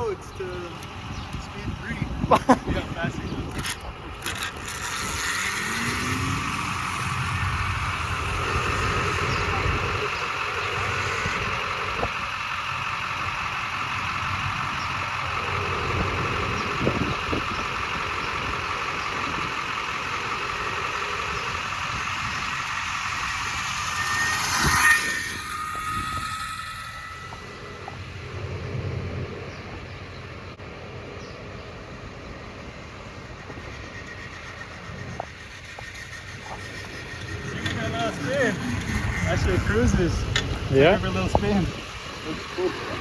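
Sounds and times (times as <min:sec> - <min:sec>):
road and wind noise: 0:00.0 - 0:43.0
electric motor whine: 0:00.7 - 0:30.5, 0:33.2 - 0:43.0.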